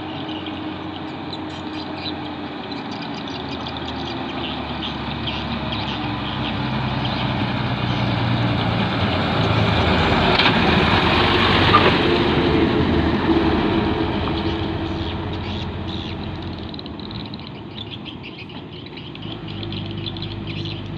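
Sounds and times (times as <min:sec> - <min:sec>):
heavy diesel truck driving past: 0:00.0 - 0:20.9.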